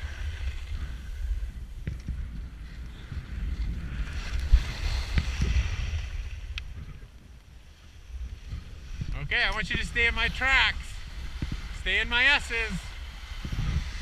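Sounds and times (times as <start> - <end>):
skis sliding over snow: 0.0 - 14.0
wind buffeting microphone: 0.0 - 14.0.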